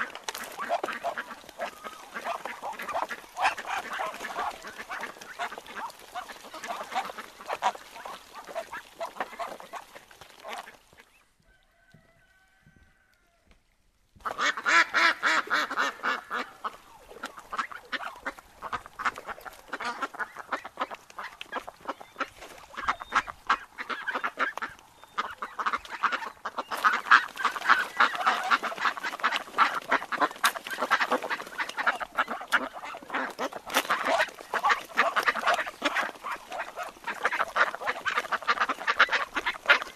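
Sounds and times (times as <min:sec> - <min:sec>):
ducks quacking: 0:00.0 - 0:11.3, 0:14.2 - 0:39.9.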